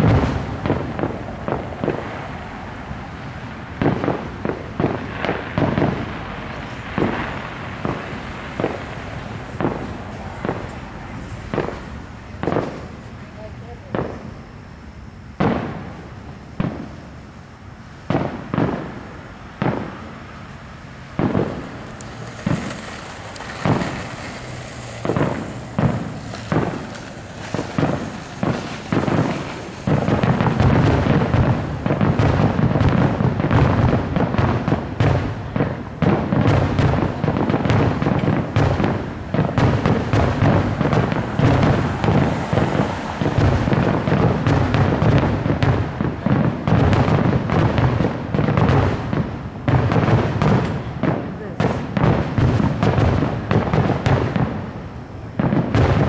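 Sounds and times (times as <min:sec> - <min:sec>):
fireworks booming: 0:00.0 - 0:56.0
rapid fireworks bangs: 0:00.0 - 0:56.0.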